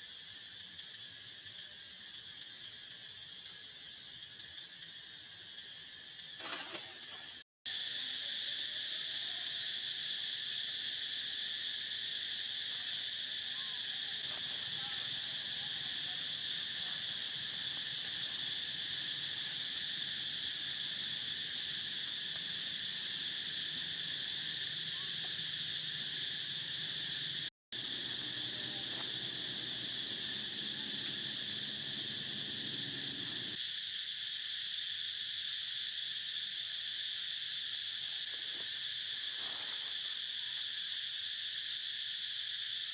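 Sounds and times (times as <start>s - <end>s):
insect chorus shrilling: 0.0s - 42.9s.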